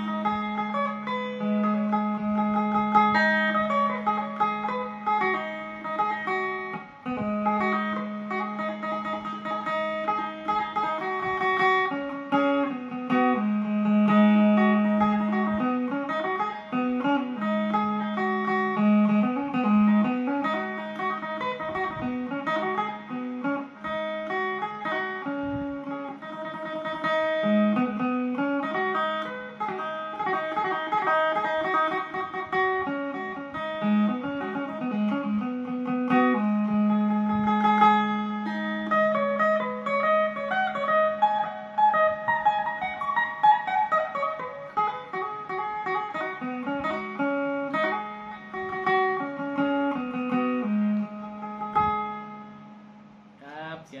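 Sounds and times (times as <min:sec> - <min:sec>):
electric lute picked melody: 0:00.0 - 0:53.5.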